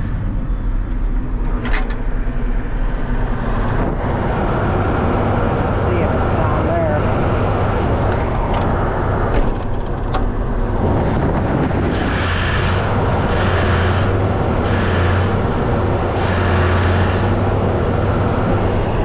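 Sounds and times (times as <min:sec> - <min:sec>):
harvester engine humming: 0:00.0 - 0:19.0.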